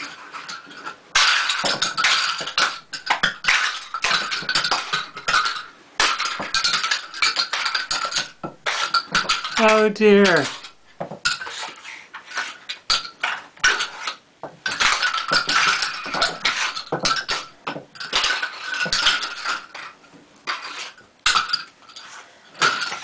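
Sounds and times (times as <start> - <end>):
plastic caps clattering on floor: 0.0 - 23.0.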